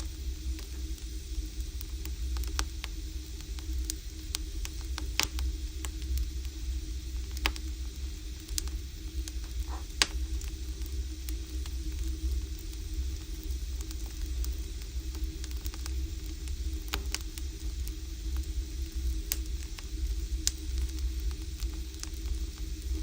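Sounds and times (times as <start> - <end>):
low steady rumble: 0.0 - 22.0
firewood crackling and popping: 0.0 - 23.0.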